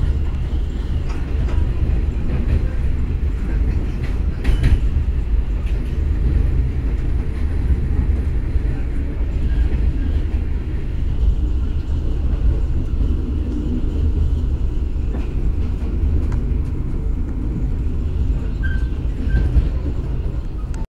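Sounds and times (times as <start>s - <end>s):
train rumbling at speed: 0.0s - 20.9s.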